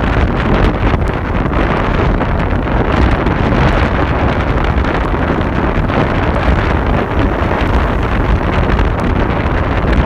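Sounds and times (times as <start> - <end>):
road traffic: 0.0 - 10.0
wind buffeting microphone: 0.0 - 10.0.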